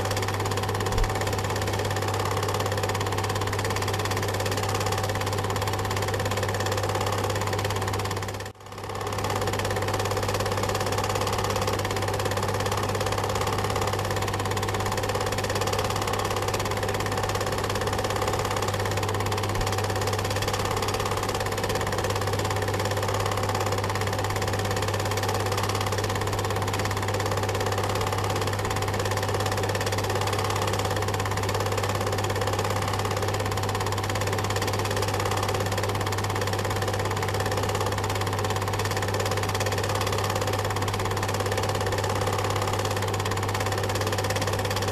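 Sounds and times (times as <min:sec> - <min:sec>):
film projector whirring and clattering: 0:00.0 - 0:44.9.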